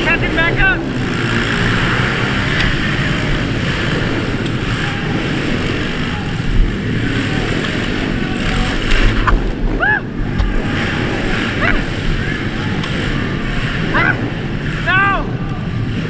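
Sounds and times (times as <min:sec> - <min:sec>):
pit bike engines running: 0:00.0 - 0:16.0.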